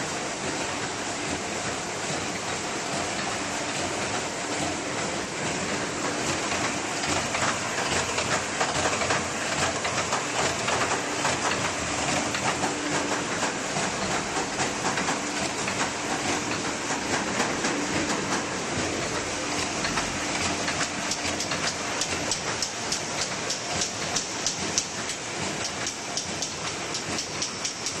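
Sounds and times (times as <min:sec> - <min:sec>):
machine clattering: 0:00.5 - 0:28.0.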